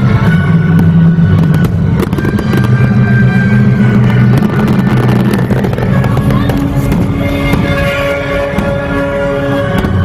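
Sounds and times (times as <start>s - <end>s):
fireworks bursting and crackling: 0.0s - 10.0s
loud low drone: 0.0s - 10.0s.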